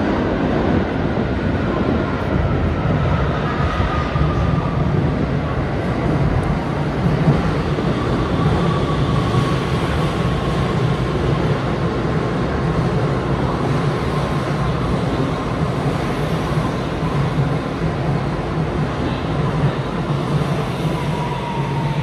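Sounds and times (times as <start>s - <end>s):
train inverter whine: 0.0s - 22.0s.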